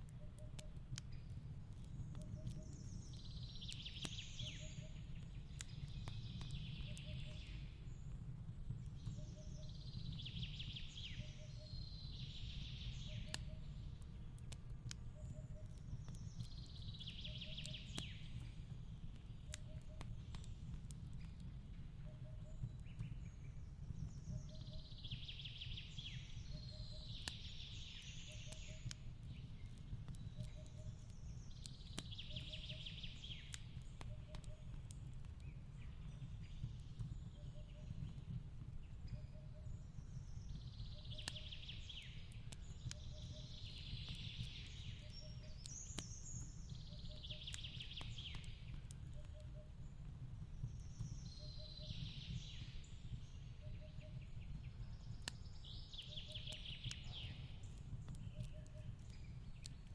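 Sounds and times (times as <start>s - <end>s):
fireplace crackling and popping: 0.0s - 59.9s.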